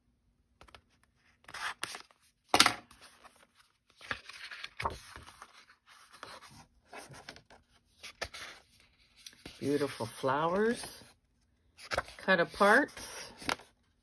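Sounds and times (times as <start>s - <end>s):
paper pages rustling: 0.6s - 13.8s.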